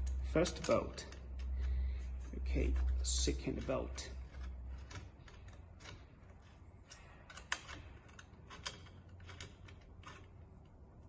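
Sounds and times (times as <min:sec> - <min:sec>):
hex key metal clicks: 0:00.0 - 0:10.7.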